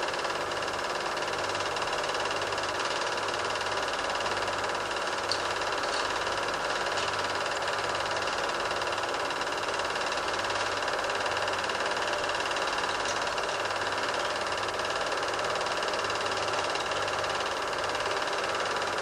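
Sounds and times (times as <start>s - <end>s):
film projector whirring: 0.0s - 19.0s.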